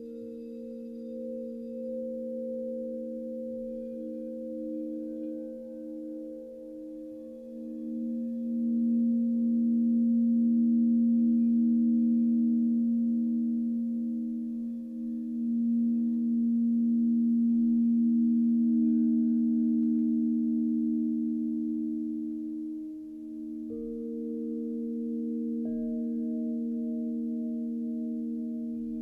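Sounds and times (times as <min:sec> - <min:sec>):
crystal singing bowls: 0:00.0 - 0:29.0.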